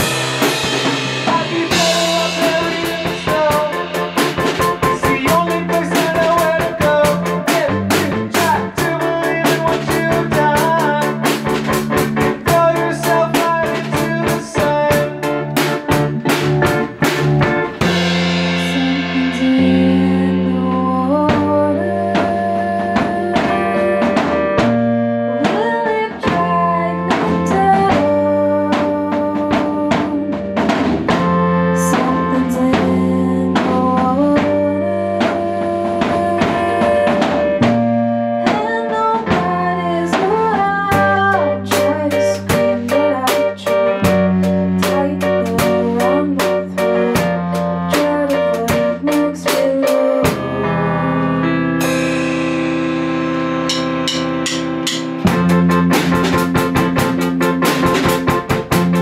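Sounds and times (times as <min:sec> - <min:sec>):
fast drumming on a drum kit: 0:00.0 - 0:50.7, 0:51.8 - 0:59.0
bass and guitar: 0:00.0 - 0:59.0.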